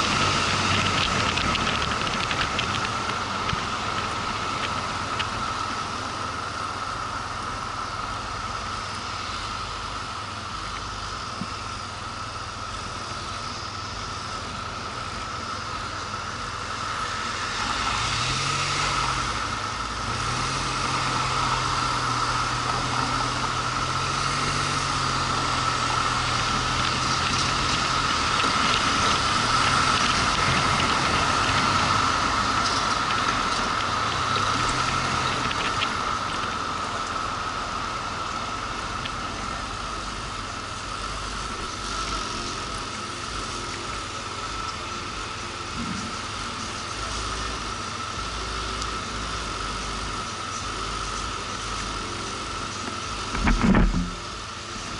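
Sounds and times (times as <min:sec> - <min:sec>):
motorcycle engine: 0:00.0 - 0:54.9
wind and road noise: 0:00.0 - 0:54.9.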